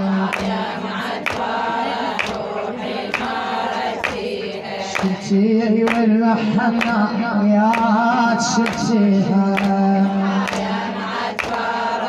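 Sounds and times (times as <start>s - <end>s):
group chanting: 0.0s - 12.0s.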